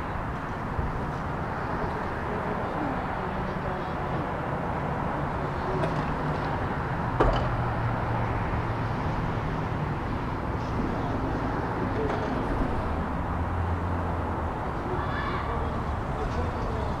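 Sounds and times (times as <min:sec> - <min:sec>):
urban background rumble: 0:00.0 - 0:17.0.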